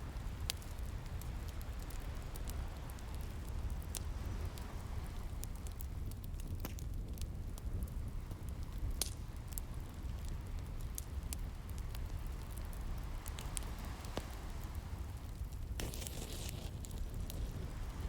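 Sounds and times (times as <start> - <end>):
wood fire crackling and popping: 0.1 - 18.0.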